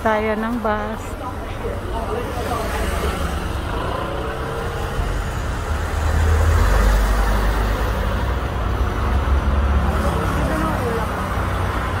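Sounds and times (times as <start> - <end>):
cars passing on street: 0.0 - 12.0.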